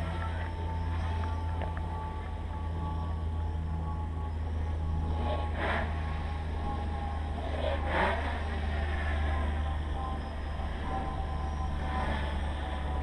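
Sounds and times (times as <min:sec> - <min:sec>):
quadcopter motors and propellers: 0:00.0 - 0:13.0.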